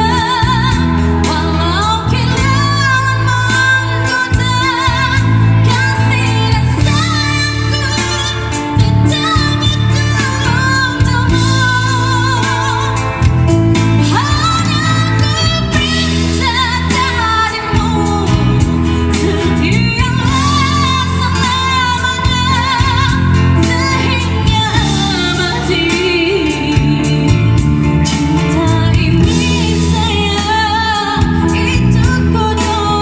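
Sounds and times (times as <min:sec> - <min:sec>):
live band accompaniment: 0:00.0 - 0:33.0
woman singing pop ballad: 0:00.0 - 0:33.0.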